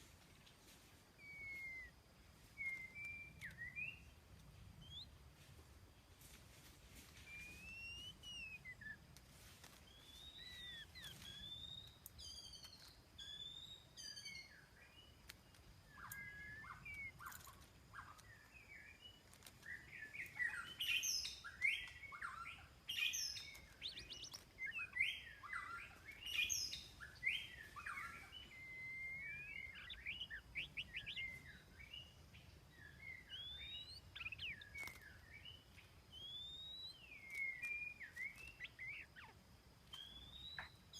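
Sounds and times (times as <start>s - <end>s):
songbird whistling and chirping: 1.1s - 4.2s, 4.8s - 5.2s, 7.1s - 9.1s, 9.7s - 40.9s.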